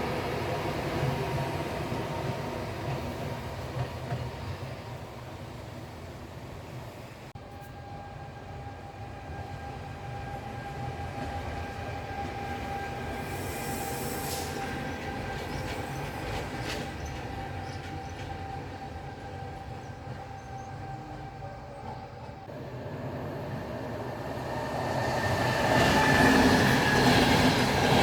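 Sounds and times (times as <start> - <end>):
train rumbling by: 0.0 - 28.0.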